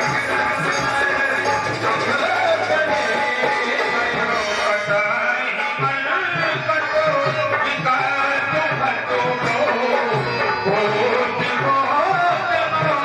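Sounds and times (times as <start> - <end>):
devotional music with tabla: 0.0 - 13.0.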